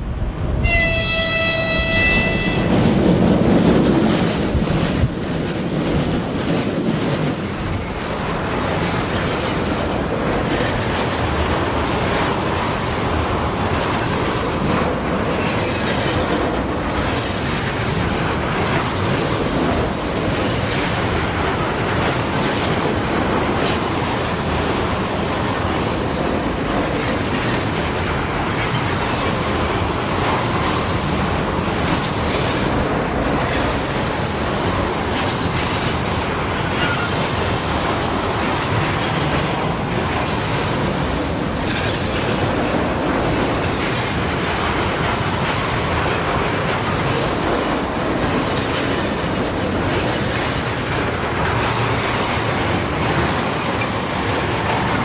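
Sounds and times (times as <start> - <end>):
freight train rumbling past: 0.0 - 55.0
wheels clacking over rail joints: 0.6 - 55.0.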